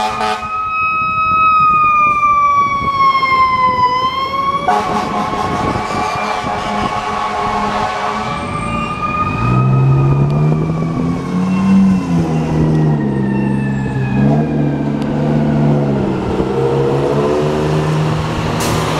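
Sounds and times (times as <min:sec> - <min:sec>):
fire engine siren winding down: 0:00.0 - 0:18.9
traffic: 0:00.0 - 0:18.9
truck engines running: 0:00.0 - 0:18.9.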